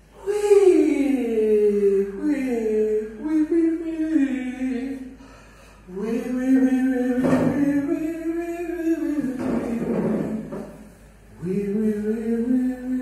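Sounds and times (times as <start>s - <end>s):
man singing vocal warm-up: 0.0s - 13.0s.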